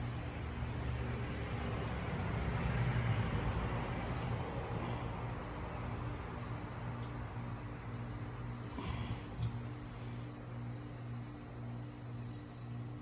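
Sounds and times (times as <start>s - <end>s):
distant vehicle traffic hum: 0.0s - 11.4s.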